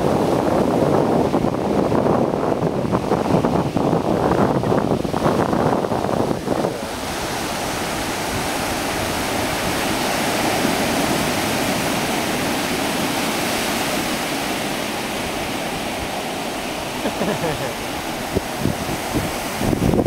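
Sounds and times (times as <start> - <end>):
ocean surf washing: 0.0 - 20.0
wind buffeting microphone: 0.0 - 20.0.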